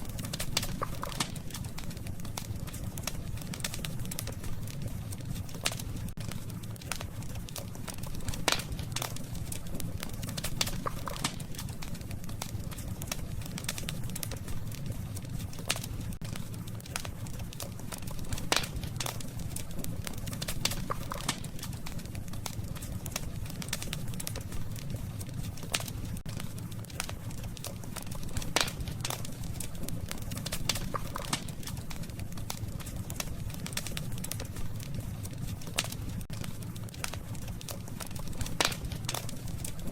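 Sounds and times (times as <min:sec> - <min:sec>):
campfire crackling: 0:00.0 - 0:39.9
low rumble of fire: 0:00.0 - 0:39.9
sharp pops of fire: 0:00.0 - 0:39.9.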